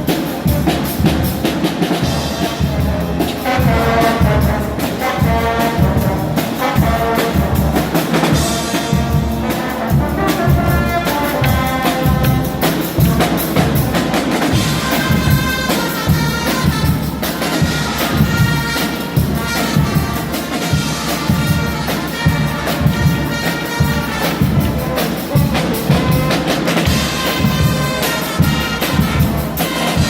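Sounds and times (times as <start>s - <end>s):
brass blaring: 0.0s - 30.0s
pounding drum beat: 0.0s - 30.0s.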